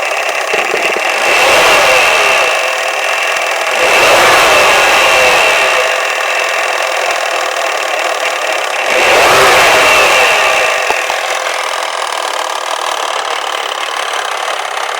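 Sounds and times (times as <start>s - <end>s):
car engine revving and idling: 0.0s - 14.9s
fast engine rattle: 0.0s - 14.9s.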